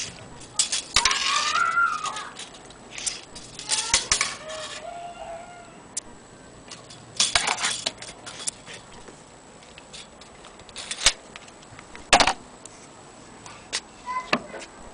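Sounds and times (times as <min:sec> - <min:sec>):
handling clicks and rustles: 0:00.0 - 0:04.9, 0:06.0 - 0:14.9.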